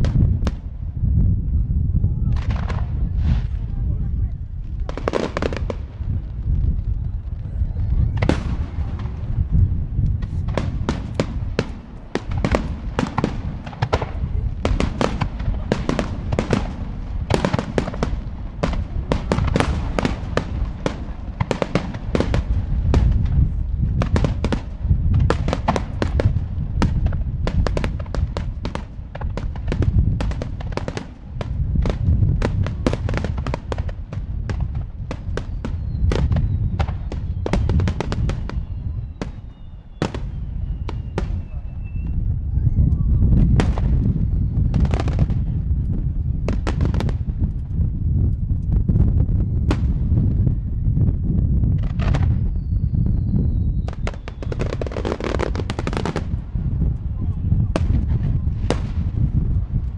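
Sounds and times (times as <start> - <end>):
low rumble: 0.0 - 59.9.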